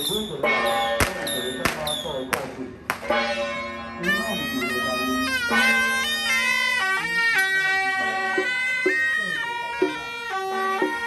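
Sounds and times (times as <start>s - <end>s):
reedy wind instrument melody: 0.0s - 11.0s.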